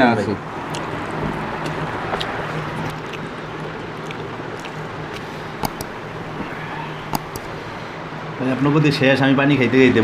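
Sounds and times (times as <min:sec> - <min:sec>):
background hum and hiss: 0:00.0 - 0:10.0.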